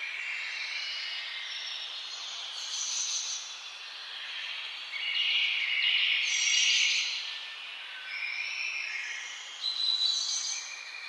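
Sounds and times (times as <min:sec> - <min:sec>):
chorus of small birds chirping: 0:00.0 - 0:11.0.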